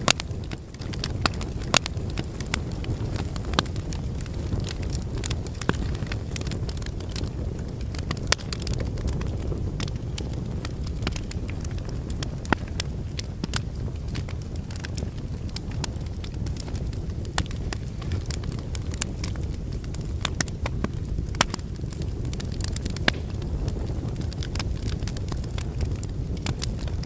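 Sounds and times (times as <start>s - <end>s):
logs crackling and popping: 0.0s - 27.0s
low rush of flames: 0.0s - 27.0s.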